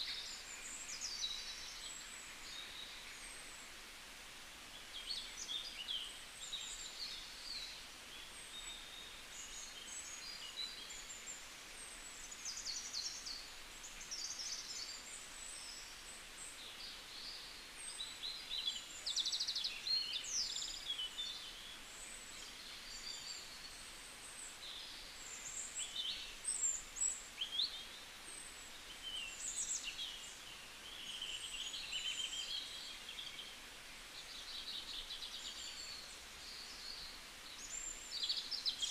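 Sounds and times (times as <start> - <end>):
small birds chirping: 0.0 - 3.7, 4.6 - 38.9
faint steady hiss: 0.0 - 38.9.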